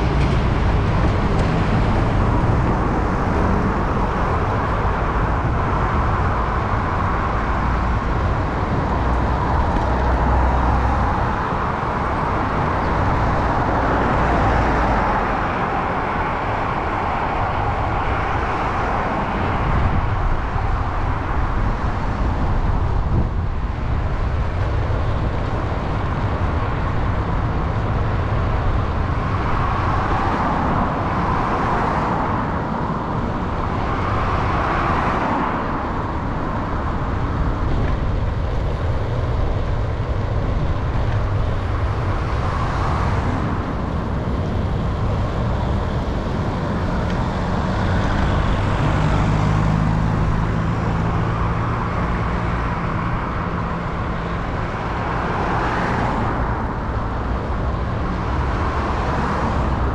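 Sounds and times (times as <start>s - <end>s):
motor vehicles passing: 0.0s - 59.9s
road rumble: 0.0s - 59.9s
wind at microphone: 0.0s - 59.9s.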